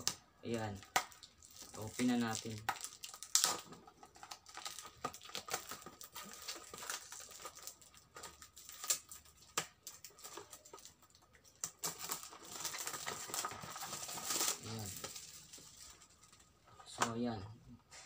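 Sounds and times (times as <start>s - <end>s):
plastic wrapping crinkling and tearing: 0.0s - 17.1s.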